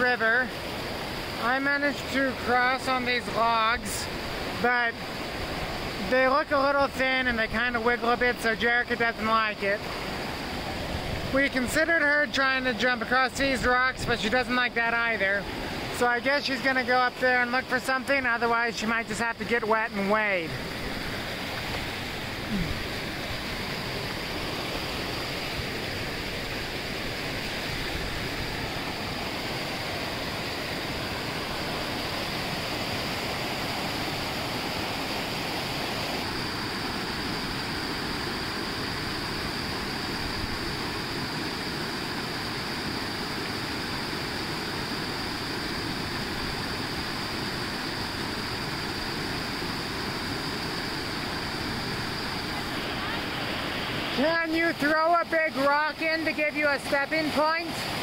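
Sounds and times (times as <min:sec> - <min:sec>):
creek cascading over boulders: 0:00.0 - 0:58.0.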